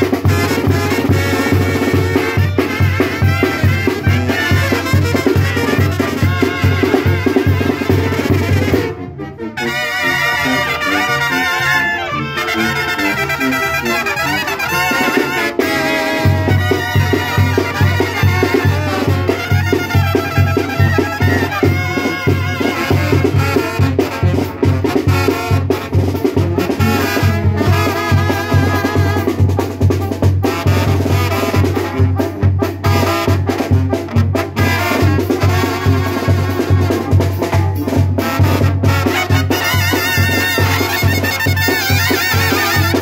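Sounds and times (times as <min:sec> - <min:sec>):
latin brass band music: 0:00.0 - 0:43.0.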